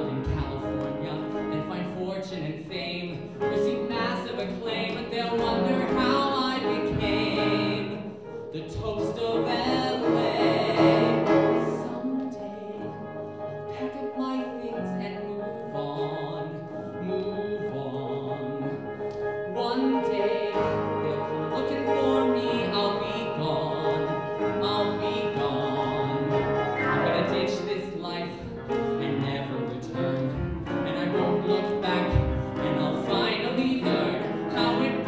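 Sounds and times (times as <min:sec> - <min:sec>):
man singing: 0:00.0 - 0:35.0
piano accompaniment: 0:00.0 - 0:35.0.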